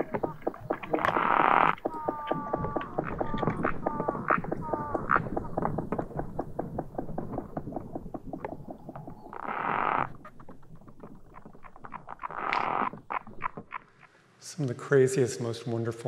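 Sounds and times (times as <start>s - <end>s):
rapid train of insect clicks: 0.0s - 14.1s.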